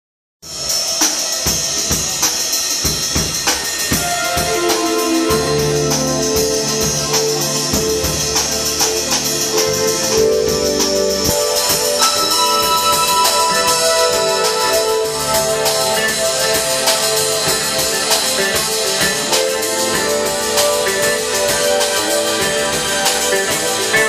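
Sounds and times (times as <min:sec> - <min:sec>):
drum kit beat with cymbals: 0:00.4 - 0:24.0
held chords with bass notes: 0:03.9 - 0:24.0.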